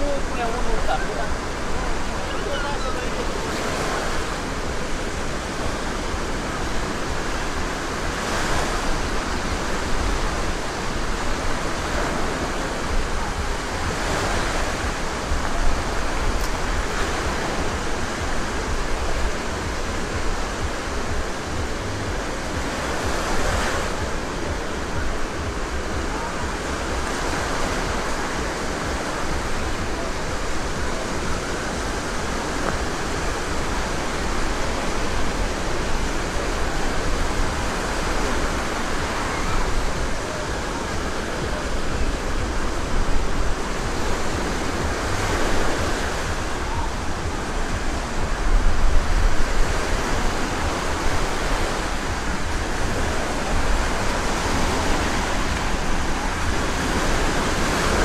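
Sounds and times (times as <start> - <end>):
waves breaking on sandy shore: 0.0 - 58.0.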